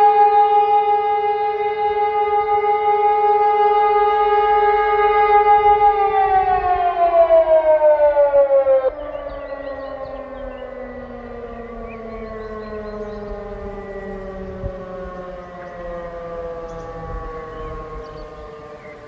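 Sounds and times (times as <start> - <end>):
loud siren falling in pitch: 0.0 - 19.0
lower siren tone sliding down: 0.0 - 19.0.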